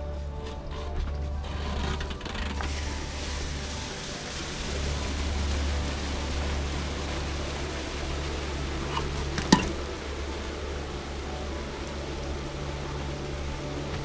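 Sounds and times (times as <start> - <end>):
liquid nitrogen hissing: 1.4 - 14.0.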